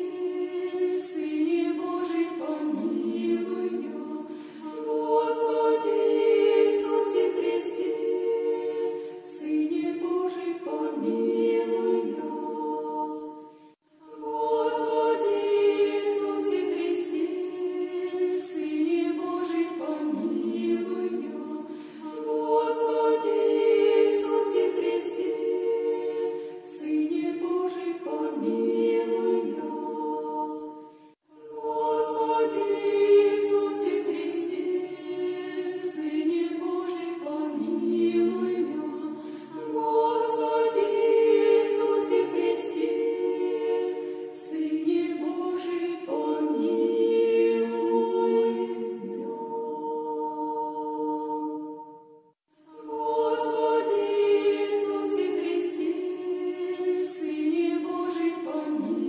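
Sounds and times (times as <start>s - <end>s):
choir singing a chant: 0.0s - 59.0s.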